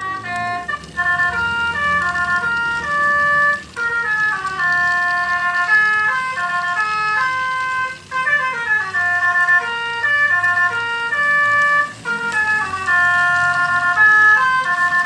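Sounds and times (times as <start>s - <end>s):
musical horn playing a tune: 0.0s - 15.0s.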